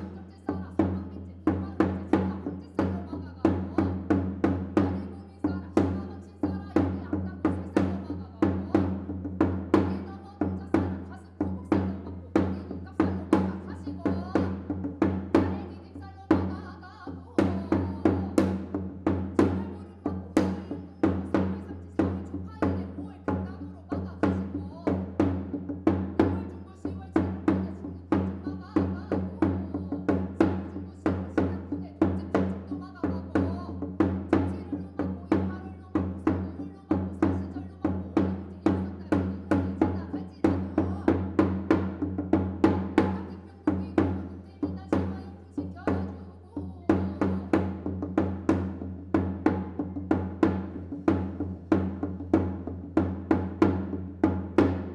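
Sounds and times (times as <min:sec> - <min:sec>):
drum beaten in steady rhythm: 0:00.0 - 0:54.9.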